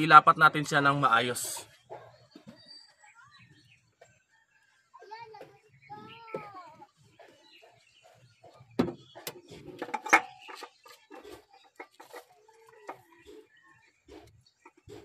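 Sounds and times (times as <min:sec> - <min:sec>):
faint farm animal calls: 0:01.2 - 0:15.0.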